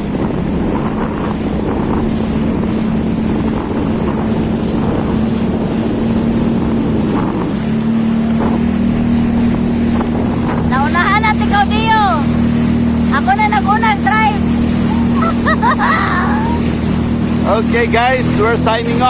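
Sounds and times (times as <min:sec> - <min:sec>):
jet ski engine running: 0:00.0 - 0:19.0
wind on microphone: 0:00.0 - 0:19.0.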